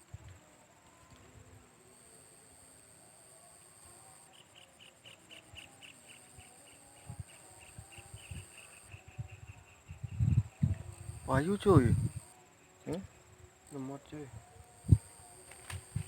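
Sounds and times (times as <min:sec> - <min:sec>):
insect pulsing chirp: 0:01.1 - 0:16.0
insect high-pitched trill: 0:01.2 - 0:16.0.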